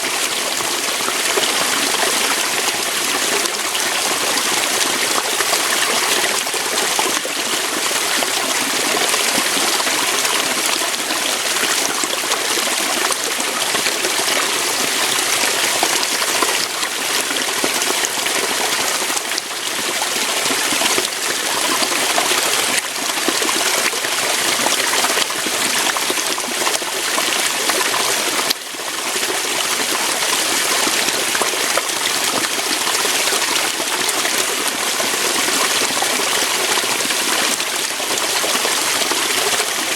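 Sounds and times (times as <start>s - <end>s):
water pouring over rocks: 0.0s - 39.9s.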